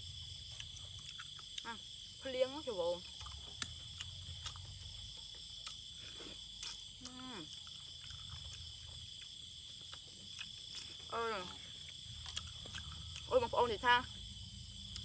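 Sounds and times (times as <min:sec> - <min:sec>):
crickets and night insects trilling: 0:00.0 - 0:15.0.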